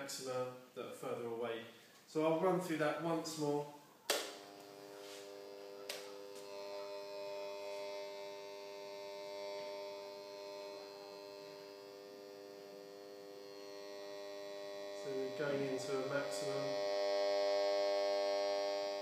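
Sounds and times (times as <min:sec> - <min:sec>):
buzzing hum from loudspeaker: 0:02.4 - 0:19.0.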